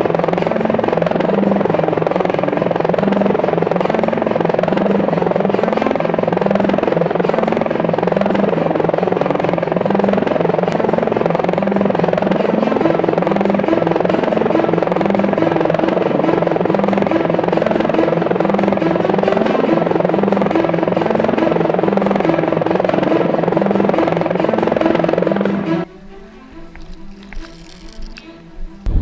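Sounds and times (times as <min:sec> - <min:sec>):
drone propellers buzzing: 0:00.0 - 0:29.0.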